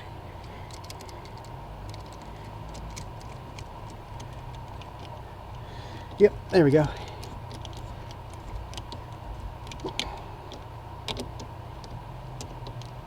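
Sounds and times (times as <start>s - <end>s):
small clicks and ticks: 0.0s - 13.0s
steady low hum: 0.0s - 13.0s.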